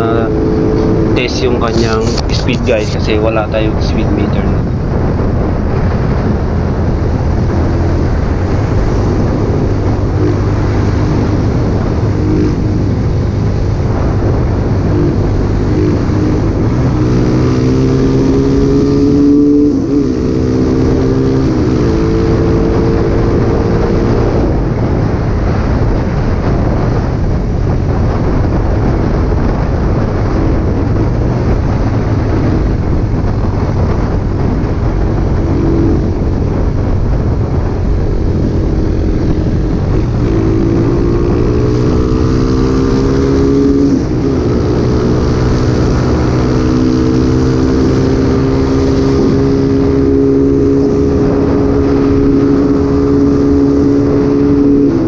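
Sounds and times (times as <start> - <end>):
motorcycle engine accelerating: 0.0 - 55.0
wind on microphone: 0.0 - 55.0.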